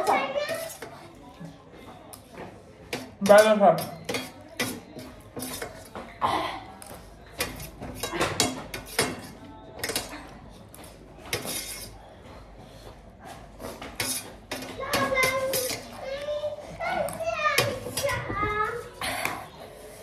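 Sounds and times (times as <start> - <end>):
utensils clinking against bowl: 0.0 - 1.5, 2.1 - 12.1, 13.6 - 16.4, 17.0 - 19.6.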